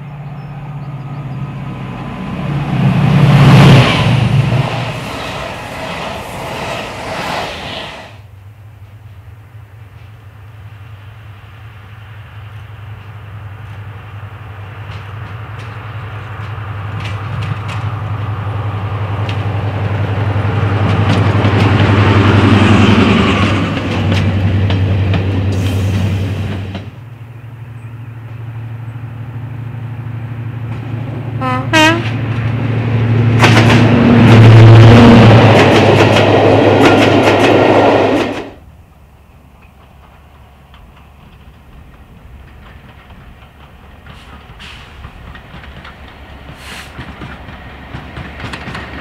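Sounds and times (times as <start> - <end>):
rail clicks: 0.0 - 8.2, 12.4 - 27.1, 30.4 - 49.0
diesel locomotive engine: 0.0 - 49.0.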